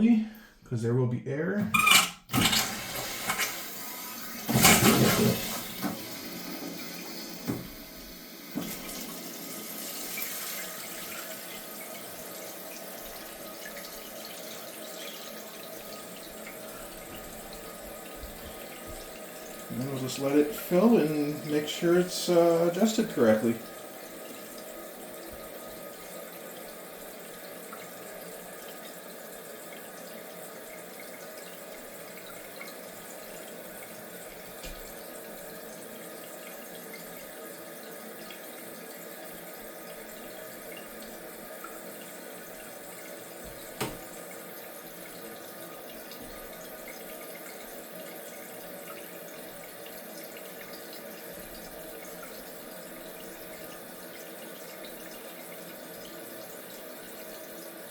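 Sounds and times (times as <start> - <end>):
water rushing into toilet tank: 1.6 - 57.9.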